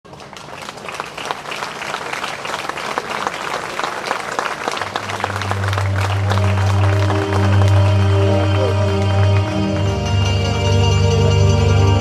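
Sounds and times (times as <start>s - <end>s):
audience applauding: 0.1s - 10.6s.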